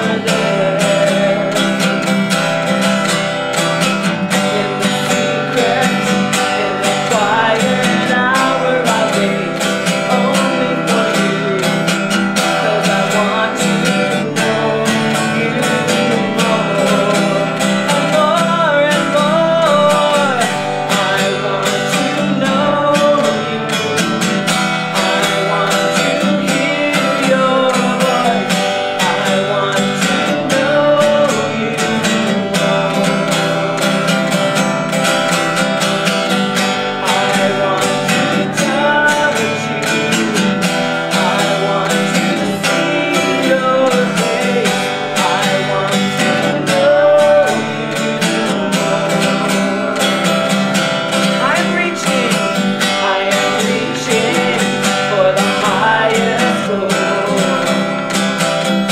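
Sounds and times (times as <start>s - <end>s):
acoustic guitar strumming: 0.0s - 58.9s
person singing: 0.0s - 58.9s.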